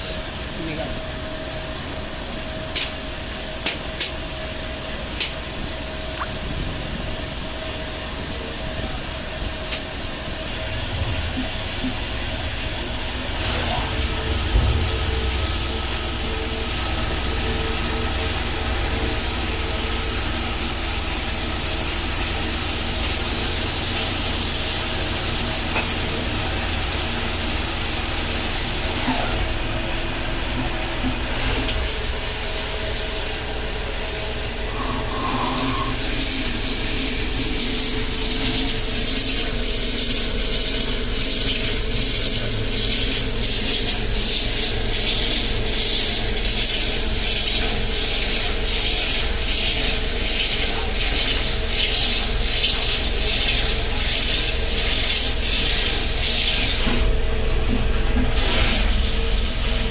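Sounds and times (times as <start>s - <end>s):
coolant hissing and splashing: 0.0s - 59.9s
machine running hum: 4.4s - 59.9s.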